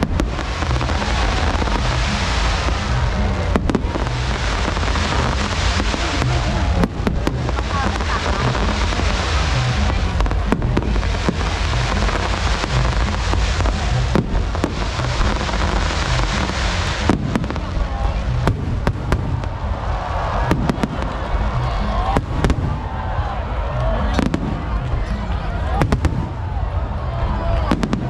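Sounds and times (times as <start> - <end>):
fireworks bangs: 0.0 - 23.4, 24.0 - 28.0
fireworks crackling: 0.0 - 28.0.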